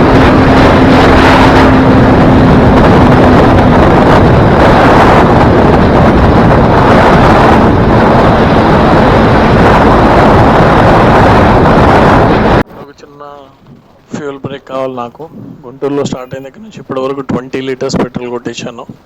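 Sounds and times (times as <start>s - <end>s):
motorcycle engine hum: 0.0s - 19.0s
wind rushing over microphone: 0.0s - 19.0s.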